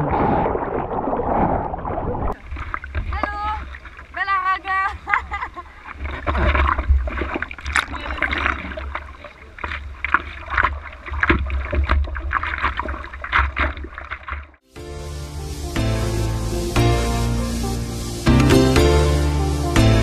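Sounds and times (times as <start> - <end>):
water splashing from paddling: 0.0 - 20.0.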